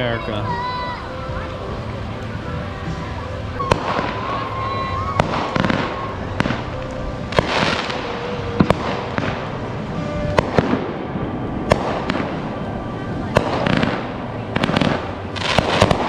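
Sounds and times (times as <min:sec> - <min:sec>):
fireworks bangs and pops: 0:03.0 - 0:16.0.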